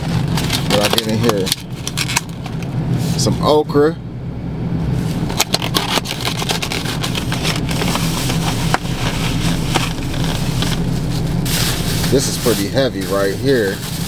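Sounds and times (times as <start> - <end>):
plastic bag rustling: 0.0 - 3.3, 5.1 - 14.0
car engine idling: 0.0 - 14.0.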